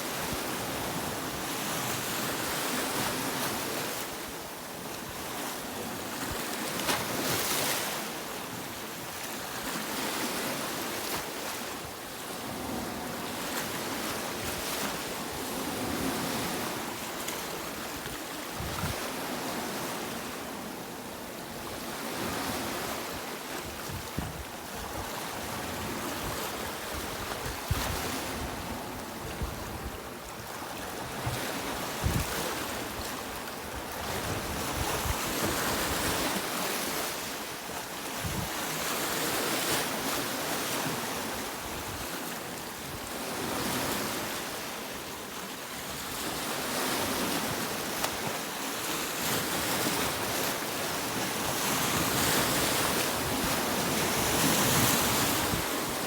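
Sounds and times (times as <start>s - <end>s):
sea waves breaking on a beach: 0.0s - 56.0s.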